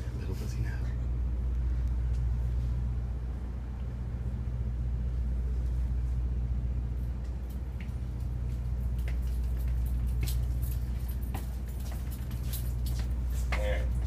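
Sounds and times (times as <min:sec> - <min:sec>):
bus machinery droning hum: 0:00.0 - 0:14.0.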